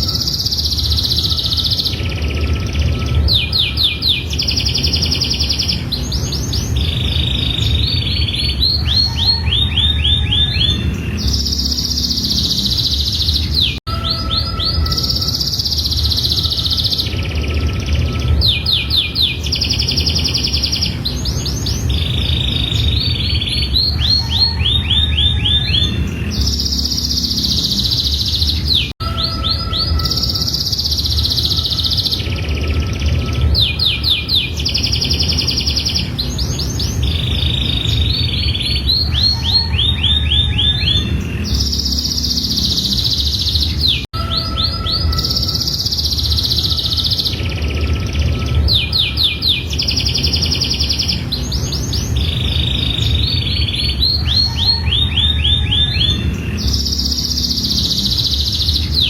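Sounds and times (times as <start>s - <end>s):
steady low rumble: 0.0s - 44.1s, 44.9s - 59.0s
canary singing trills: 0.0s - 59.0s.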